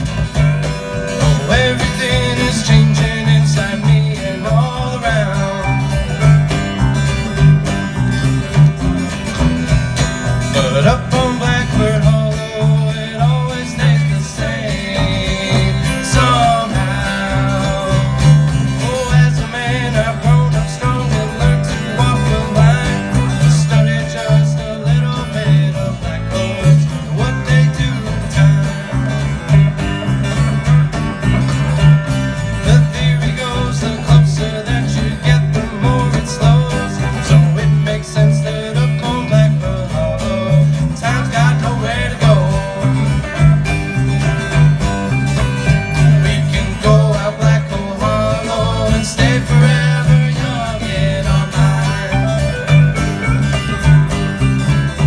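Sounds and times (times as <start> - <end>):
acoustic guitars picking: 0.0 - 55.0.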